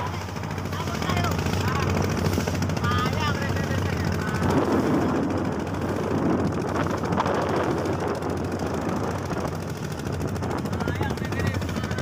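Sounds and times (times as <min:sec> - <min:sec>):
small boat engine chugging: 0:00.0 - 0:12.0
water noise: 0:00.0 - 0:12.0
wind: 0:00.0 - 0:12.0.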